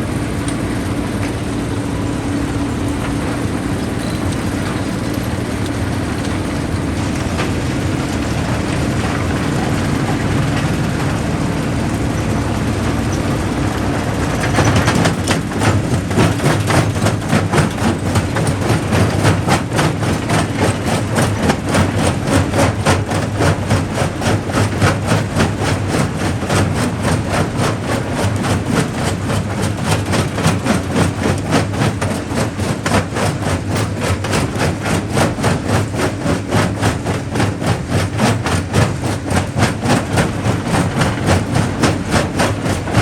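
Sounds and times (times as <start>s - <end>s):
jaw crusher humming: 0.0s - 43.0s.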